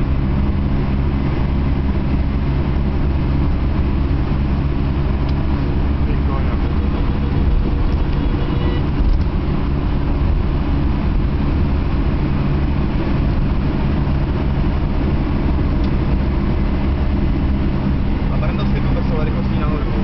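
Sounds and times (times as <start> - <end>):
car engine running steadily: 0.0 - 20.0
tyre and road noise: 0.0 - 20.0.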